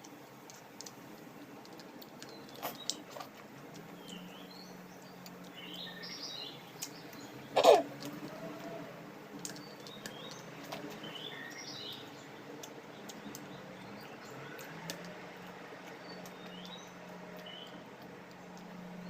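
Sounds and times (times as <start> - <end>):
faint clicks: 0.0 - 5.9, 6.6 - 19.0
small birds chirping: 0.0 - 19.0.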